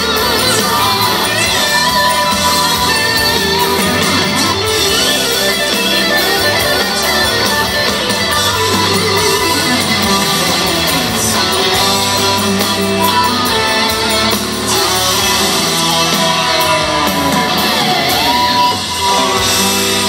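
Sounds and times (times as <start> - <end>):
electric guitar bending notes: 0.0 - 20.0
live band music: 0.0 - 20.0.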